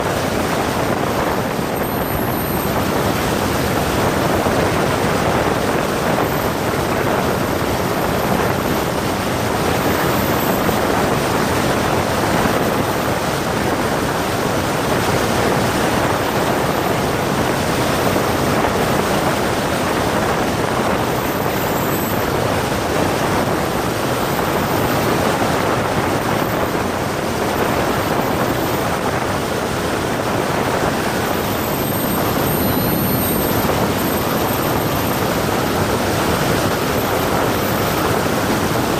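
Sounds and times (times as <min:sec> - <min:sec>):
propeller plane engine droning: 0:00.0 - 0:38.9
rushing air: 0:00.0 - 0:38.9.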